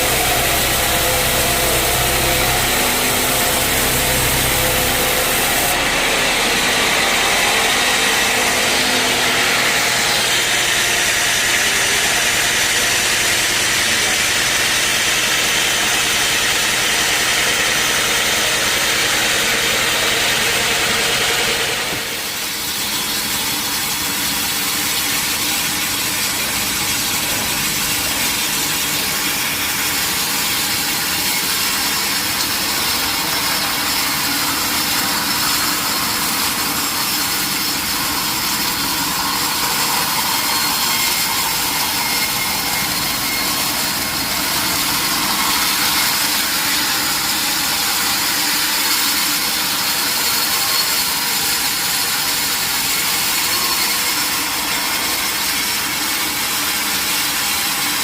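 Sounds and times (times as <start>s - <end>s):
running machinery: 0.0s - 58.0s
saw blade cutting wood: 0.0s - 58.0s.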